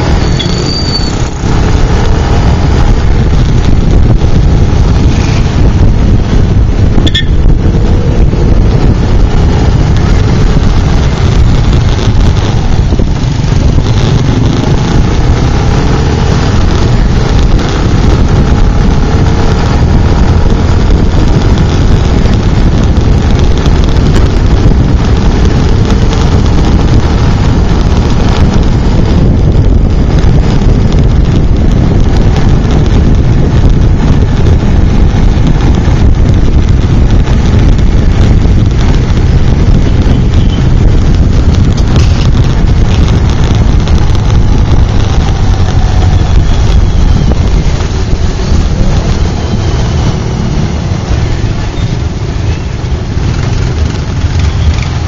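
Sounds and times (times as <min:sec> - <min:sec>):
motorcycle engine and road noise: 0:00.0 - 0:55.0
wind buffeting microphone: 0:00.0 - 0:55.0.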